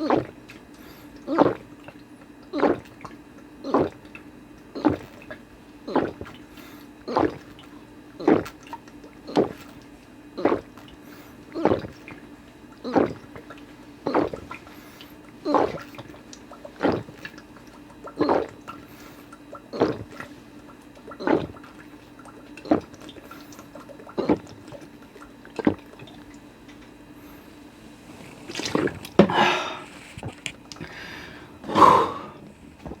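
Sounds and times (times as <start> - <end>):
person gulping a drink: 0.0 - 26.4, 28.1 - 33.0.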